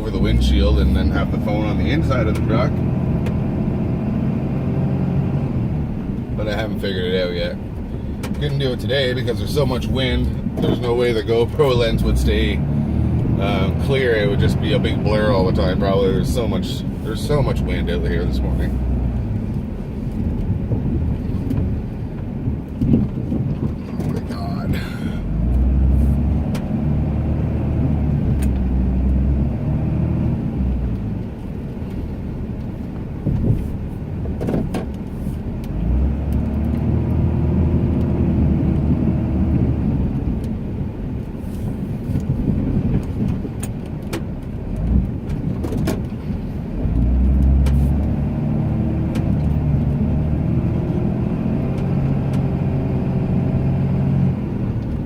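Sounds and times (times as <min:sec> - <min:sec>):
pickup truck engine pulling hard: 0:00.0 - 0:55.0.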